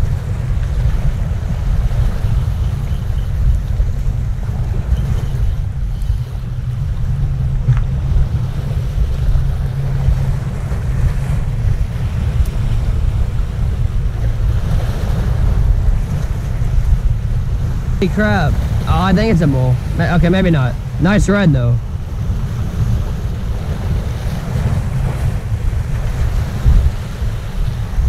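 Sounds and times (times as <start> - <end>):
surf washing against jetty: 0.0 - 28.0
wind buffeting microphone: 0.0 - 28.0.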